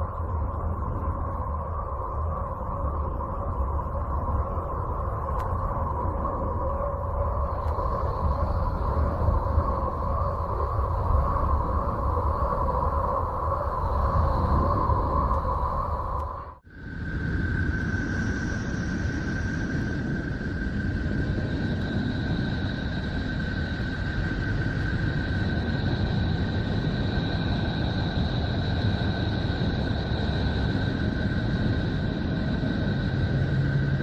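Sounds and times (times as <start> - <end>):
deep rumble: 0.0 - 34.0.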